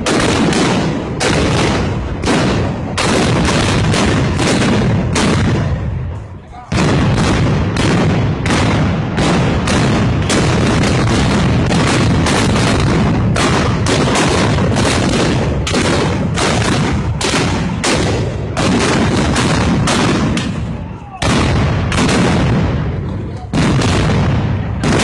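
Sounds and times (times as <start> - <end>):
black-powder gunshots: 0.0 - 25.0.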